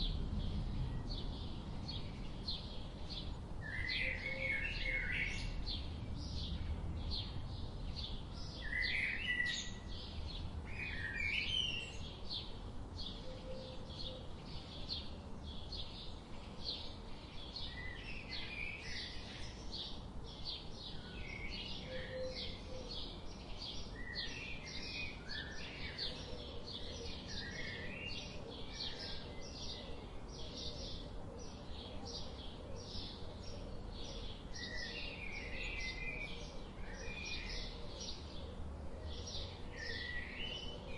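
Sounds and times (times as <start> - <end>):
birds chirping and singing: 0.0 - 40.9
low steady background rumble: 0.0 - 40.9.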